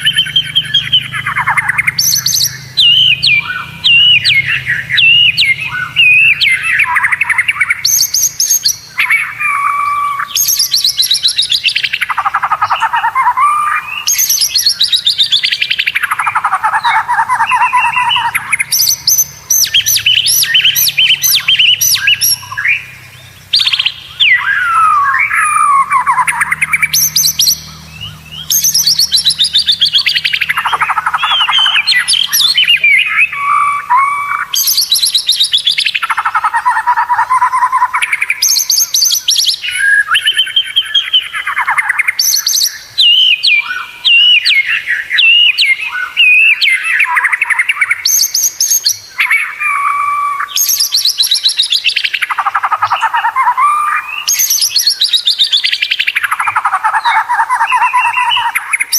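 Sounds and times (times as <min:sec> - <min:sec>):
bird singing varied phrases: 0:00.0 - 0:58.9.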